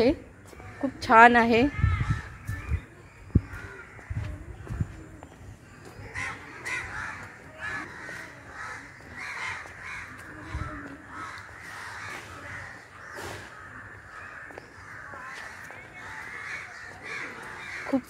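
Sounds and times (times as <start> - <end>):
crows cawing: 1.6 - 4.2, 5.8 - 18.0.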